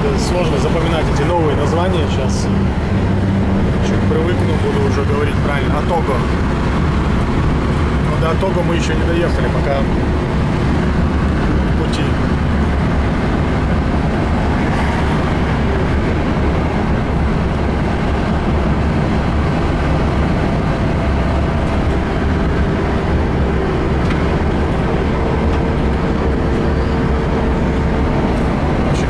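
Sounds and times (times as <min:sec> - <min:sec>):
car driving rumble: 0:00.0 - 0:29.0.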